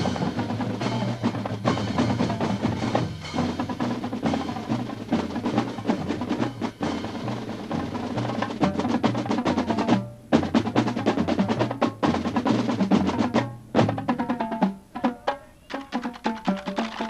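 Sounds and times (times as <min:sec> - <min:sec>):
marching band percussion: 0:00.0 - 0:17.0.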